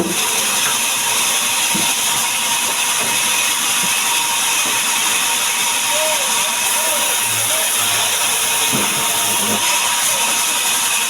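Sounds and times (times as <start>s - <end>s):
power saw cutting wood: 0.0s - 11.0s.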